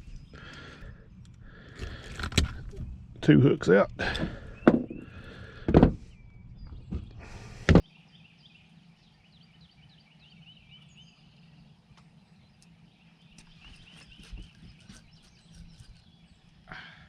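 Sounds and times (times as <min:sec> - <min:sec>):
small birds chirping: 0:00.0 - 0:02.6, 0:03.2 - 0:17.0.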